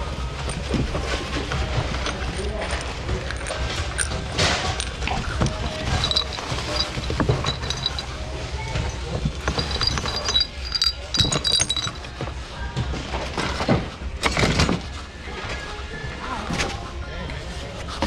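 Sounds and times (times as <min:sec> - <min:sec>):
items clattering and clinking: 0:00.0 - 0:15.7
background chatter: 0:00.0 - 0:18.0.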